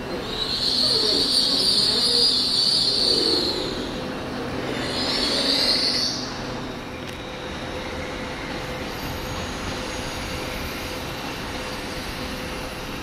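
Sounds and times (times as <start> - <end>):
low rumble of moving train: 0.0 - 13.0
train wheels squealing: 0.0 - 13.0.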